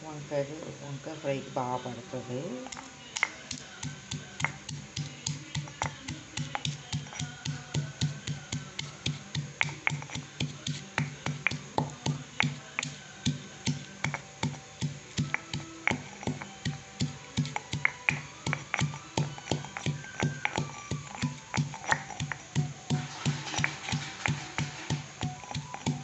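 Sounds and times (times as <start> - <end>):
stone pestle pounding in mortar: 2.5 - 26.0.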